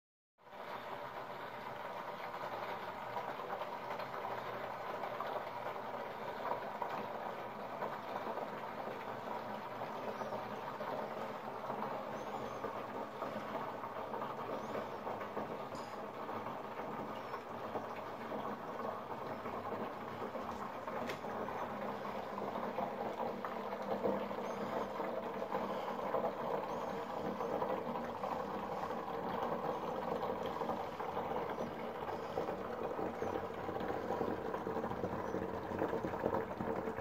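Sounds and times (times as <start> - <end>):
liquid trickling into plastic canister: 0.7 - 37.0.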